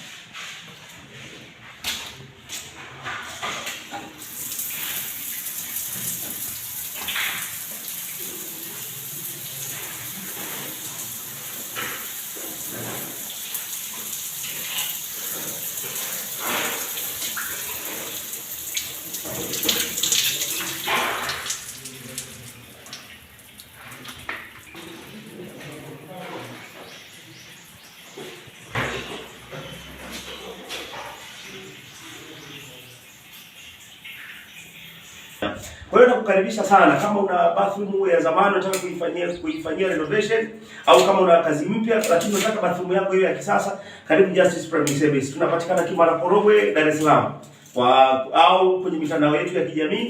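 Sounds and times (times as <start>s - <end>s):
water running from tap: 3.6s - 48.1s.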